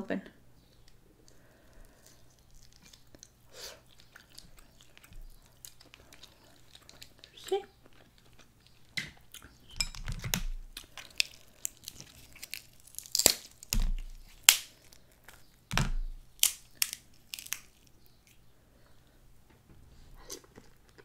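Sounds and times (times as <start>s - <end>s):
crab shells cracking: 0.6s - 18.5s.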